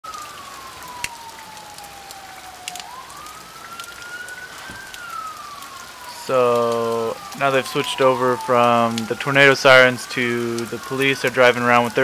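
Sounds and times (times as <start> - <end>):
warning siren wailing: 0.0 - 12.0.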